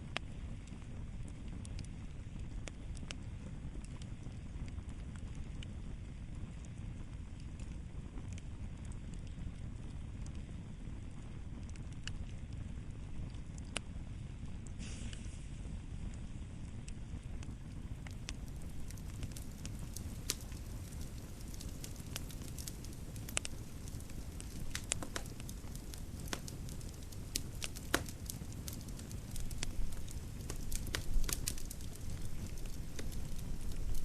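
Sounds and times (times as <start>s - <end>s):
low fire rumble: 0.0s - 34.0s
fireplace crackling pops: 6.5s - 34.0s.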